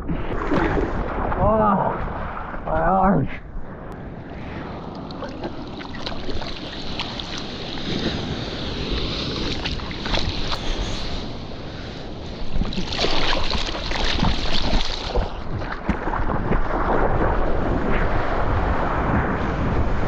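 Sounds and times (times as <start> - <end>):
seawater rushing and splashing: 0.0 - 20.0
wind buffeting microphone: 0.0 - 20.0.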